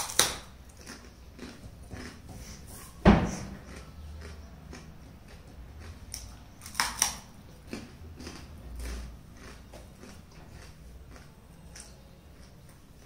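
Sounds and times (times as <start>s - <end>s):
crunching brittle candy: 0.0s - 2.3s, 3.6s - 13.0s
soft chewing and crackling: 0.0s - 13.0s.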